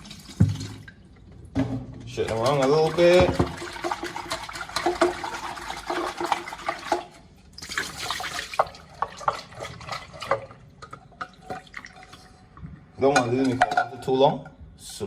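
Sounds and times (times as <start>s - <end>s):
water sloshing in a pot: 0.0s - 15.0s.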